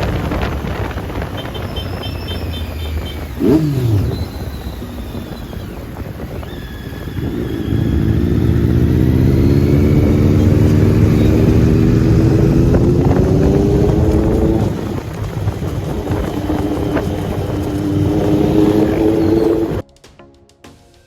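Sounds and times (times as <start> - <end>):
motorcycle engine accelerating: 0.0 - 19.8.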